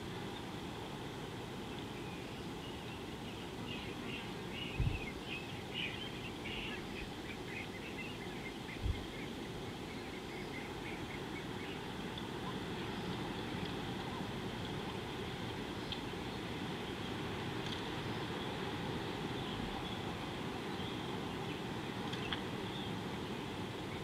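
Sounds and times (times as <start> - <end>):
outdoor hiss: 0.0 - 24.0.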